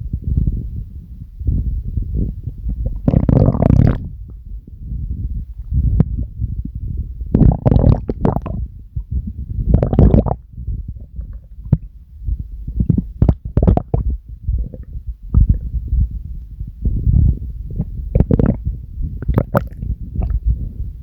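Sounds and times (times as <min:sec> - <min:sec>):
stomach growling and gurgling: 0:01.5 - 0:21.0.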